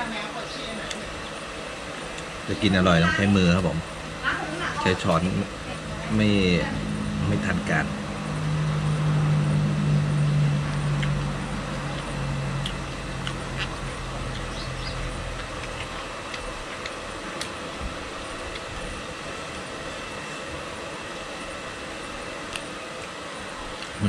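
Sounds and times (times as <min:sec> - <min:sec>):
low engine-like hum: 0:00.0 - 0:24.0.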